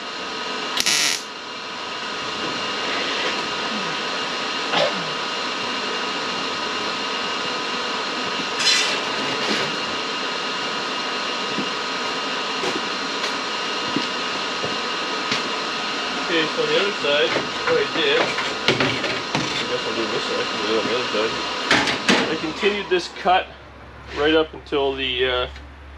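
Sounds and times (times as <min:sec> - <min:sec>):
machine drone: 0:00.0 - 0:25.9.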